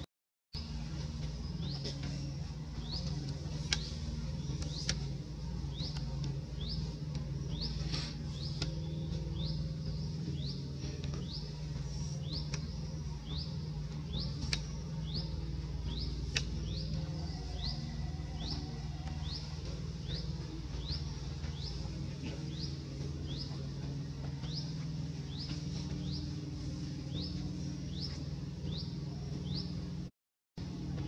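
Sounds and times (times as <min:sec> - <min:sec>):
bird chirping: 0:00.6 - 0:30.1
steady low hum: 0:00.6 - 0:31.0.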